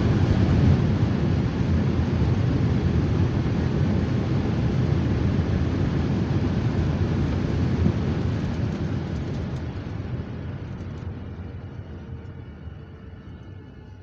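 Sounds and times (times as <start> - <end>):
jet engines and airflow rushing: 0.0 - 14.0.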